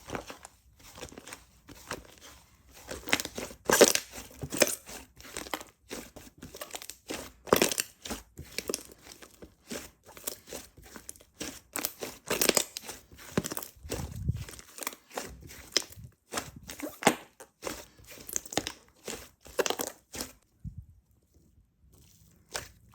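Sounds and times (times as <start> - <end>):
slime squishing with sticky crackles: 0.0 - 20.5, 21.5 - 22.9.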